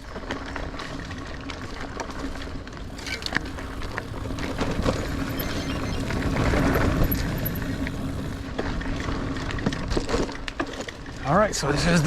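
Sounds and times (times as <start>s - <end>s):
bike tyres rumbling on dirt trail: 0.0s - 12.0s.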